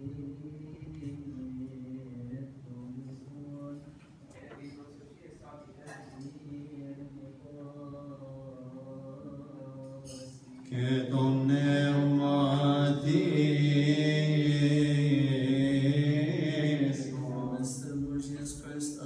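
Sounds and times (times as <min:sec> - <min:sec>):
low male voice chanting: 0:00.0 - 0:04.7, 0:06.1 - 0:19.0.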